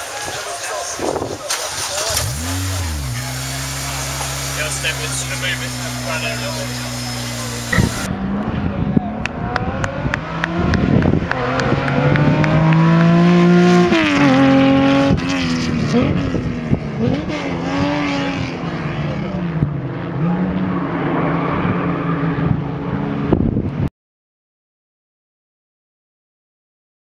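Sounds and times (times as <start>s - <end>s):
car engine revving hard: 1.5s - 23.3s.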